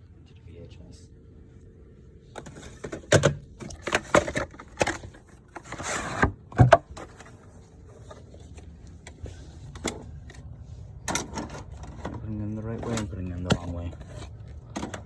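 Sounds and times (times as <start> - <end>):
rustling of cables: 2.2 - 15.0.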